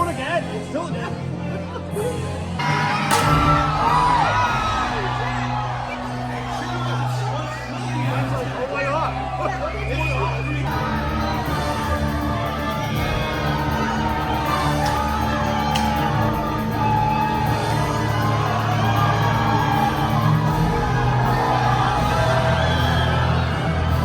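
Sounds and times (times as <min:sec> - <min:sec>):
loud show music: 0:00.0 - 0:24.0
crowd cheering and shouting: 0:02.3 - 0:24.0.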